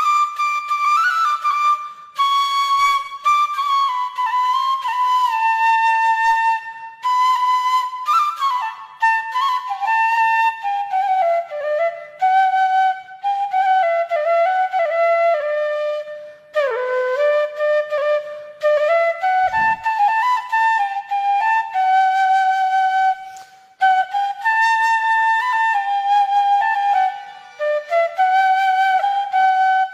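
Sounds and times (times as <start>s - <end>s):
solo flute melody: 0.0s - 29.9s.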